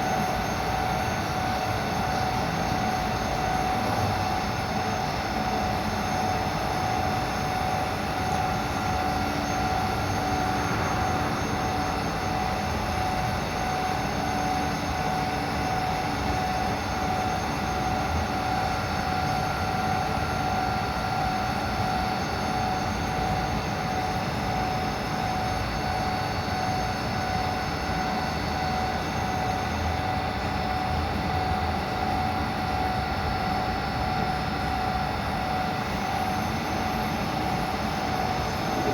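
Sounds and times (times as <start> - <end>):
milling machine whining: 0.0 - 38.9.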